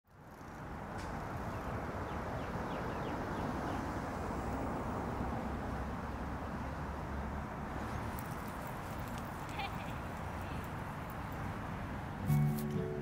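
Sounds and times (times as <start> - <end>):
distant traffic hum: 0.1 - 13.0.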